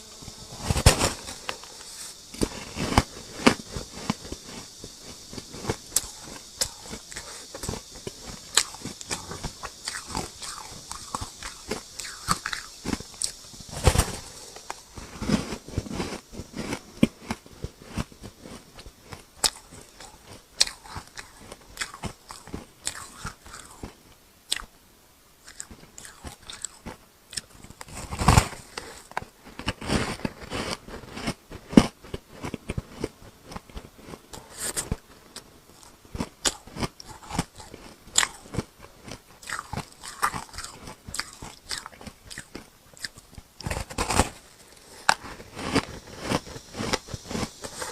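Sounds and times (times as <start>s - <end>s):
chewing crunchy ice: 1.2s - 24.7s, 25.4s - 47.9s.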